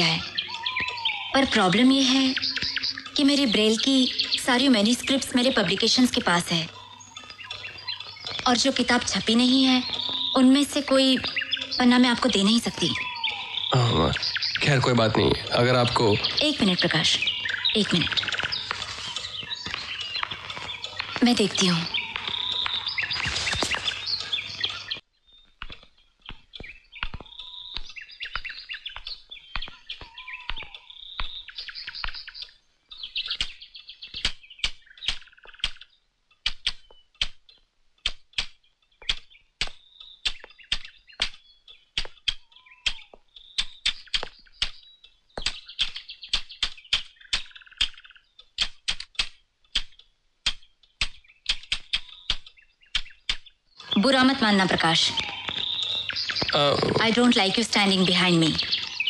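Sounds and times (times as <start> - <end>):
birds chirping and whistling: 0.0 - 37.7, 38.3 - 59.0.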